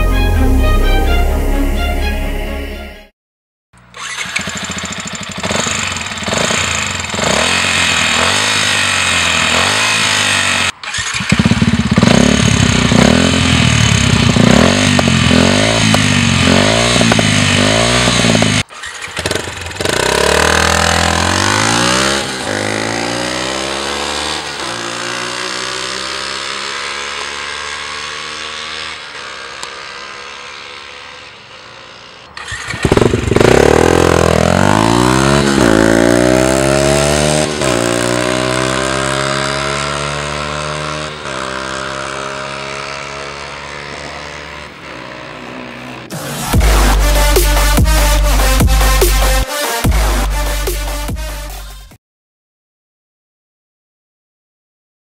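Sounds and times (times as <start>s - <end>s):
motorcycle engine revving: 3.8s - 51.8s.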